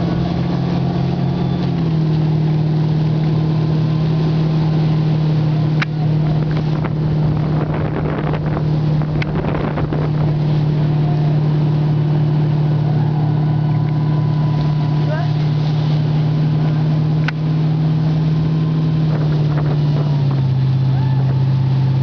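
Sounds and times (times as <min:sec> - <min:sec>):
motorboat engine drone: 0:00.0 - 0:22.0
rushing wake hiss: 0:00.0 - 0:22.0.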